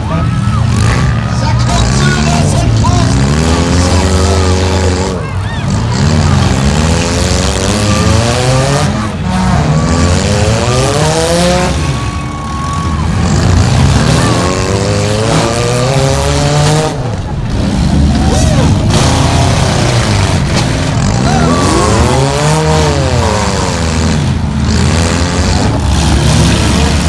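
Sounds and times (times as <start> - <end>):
car engines revving hard: 0.0 - 27.0
tyres spinning on dirt: 0.0 - 27.0.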